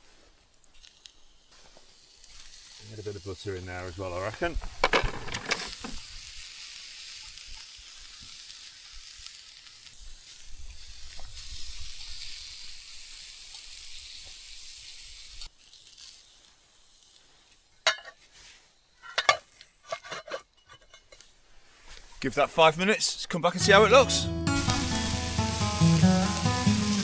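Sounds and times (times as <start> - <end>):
food sizzling in a pan: 0.0 - 22.2, 23.6 - 27.0.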